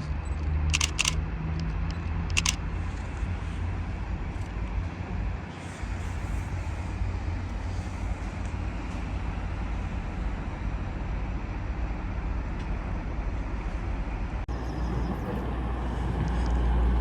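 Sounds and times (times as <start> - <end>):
train rumbling at platform: 0.0 - 17.0.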